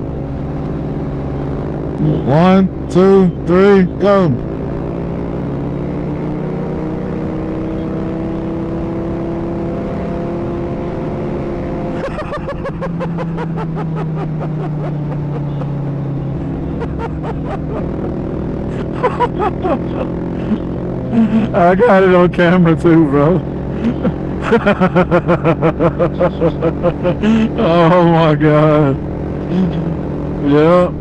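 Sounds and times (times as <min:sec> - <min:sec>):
mini motorcycle engine revving: 0:04.6 - 0:31.0.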